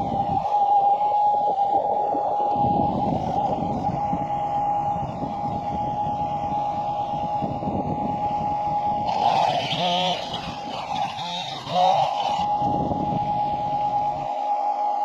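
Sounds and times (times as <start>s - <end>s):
engine running with high whine: 0.0s - 15.0s.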